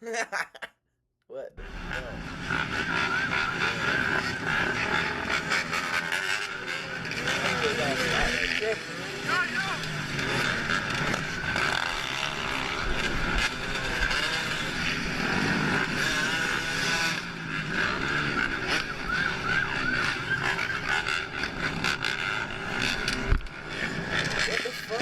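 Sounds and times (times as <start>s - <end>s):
dirt bike engines revving: 1.6s - 25.0s
traffic noise: 1.6s - 25.0s.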